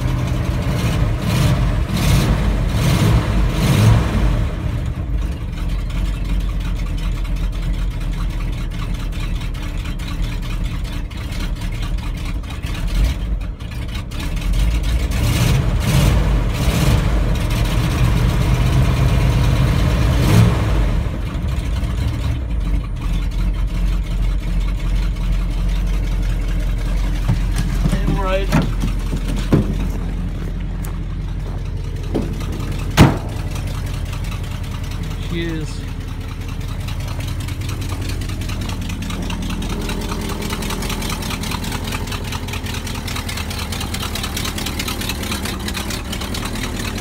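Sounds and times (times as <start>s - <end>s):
truck engine idling: 0.0s - 47.0s.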